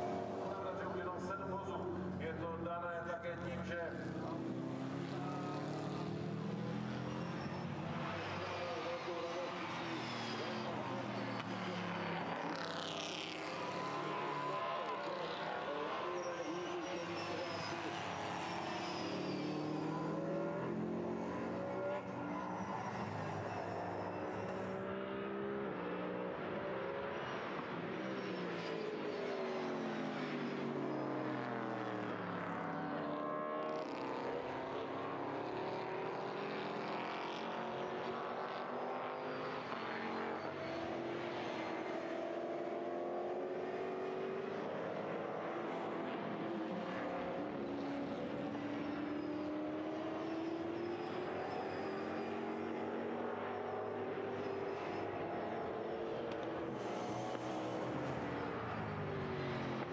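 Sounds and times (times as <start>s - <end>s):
race car engines passing by: 0.0s - 59.9s.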